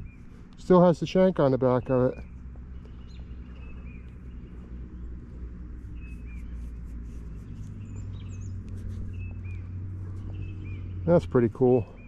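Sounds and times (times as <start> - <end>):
songbirds calling: 0.0 - 12.0
steady low hum: 0.0 - 12.0.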